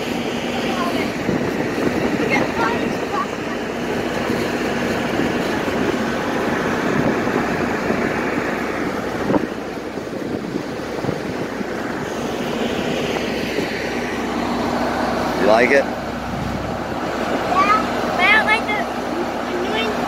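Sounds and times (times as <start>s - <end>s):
wind noise: 0.0s - 15.2s, 15.9s - 18.2s
ferry engine drone: 0.0s - 20.0s.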